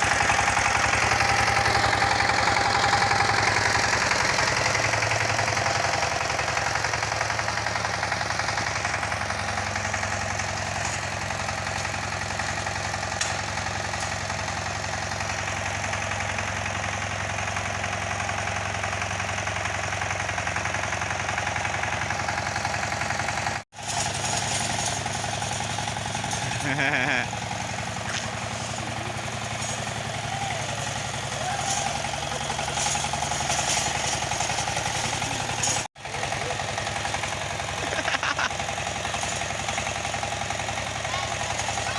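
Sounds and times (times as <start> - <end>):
walking tractor engine running: 0.0 - 41.9.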